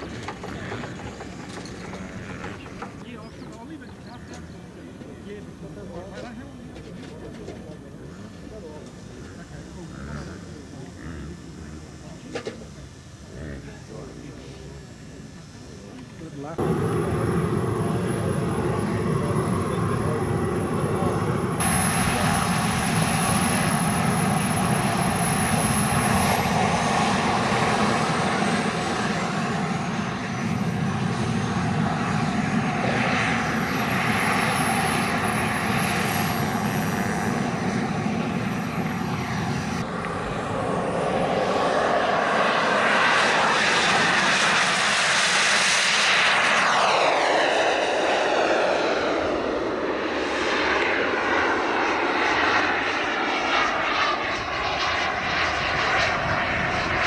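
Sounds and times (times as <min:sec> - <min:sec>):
high turbine whine: 0:00.0 - 0:57.0
jet turbine engines roaring: 0:00.0 - 0:57.0.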